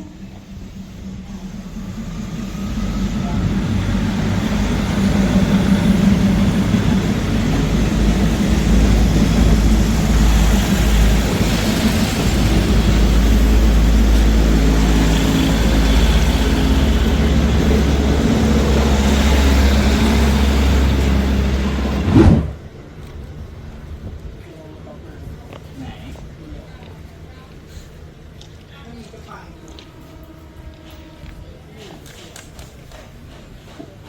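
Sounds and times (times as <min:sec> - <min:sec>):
diesel train engine humming: 0:00.0 - 0:33.6.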